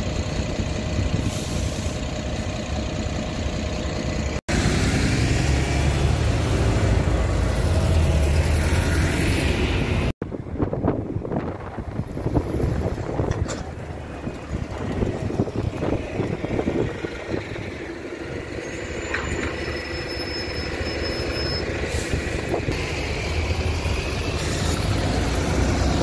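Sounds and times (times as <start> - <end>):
buses driving past: 0.0 - 26.0.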